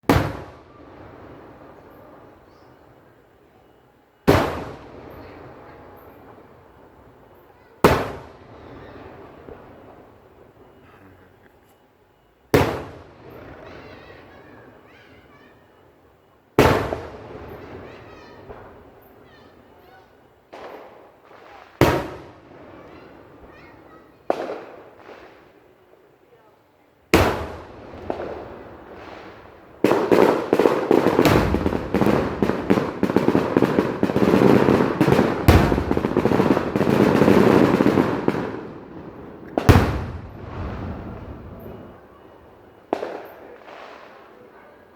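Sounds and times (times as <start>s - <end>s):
loud firework bangs: 0.0s - 2.9s, 4.2s - 11.0s, 12.5s - 15.4s, 16.6s - 25.6s, 27.1s - 44.7s.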